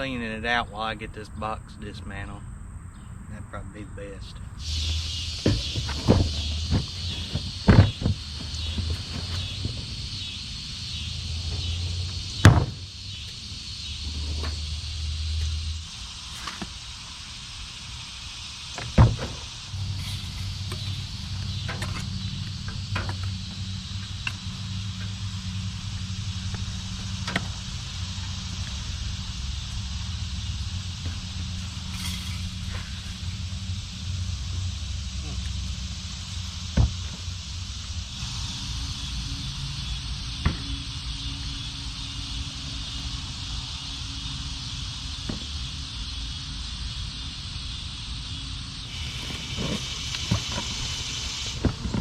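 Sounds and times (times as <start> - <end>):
insects hissing: 0.0 - 52.0
low mechanical hum: 0.0 - 52.0.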